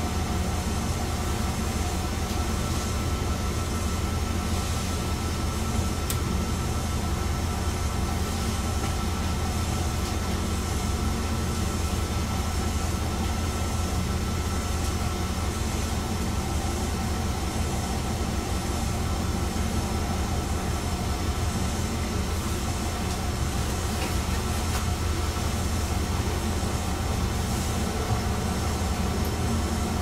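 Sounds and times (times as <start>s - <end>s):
railcar engine drone: 0.0s - 30.0s.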